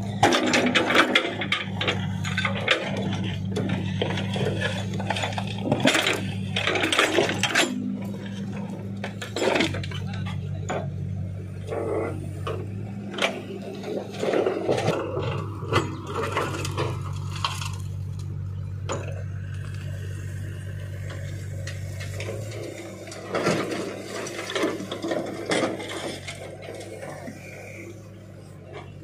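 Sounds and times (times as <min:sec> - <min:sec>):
rocks scraping and clattering: 0:00.0 - 0:10.9, 0:11.6 - 0:29.0
diesel engine running: 0:00.0 - 0:29.0.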